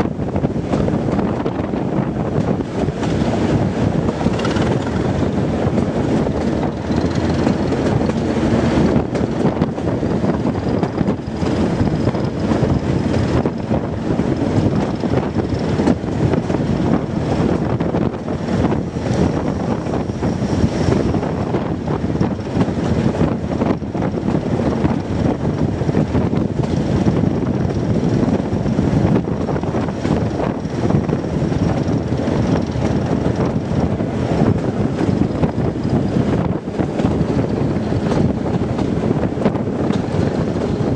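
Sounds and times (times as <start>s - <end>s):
diesel train engine running: 0.0s - 40.9s
train wheels on track: 0.0s - 40.9s.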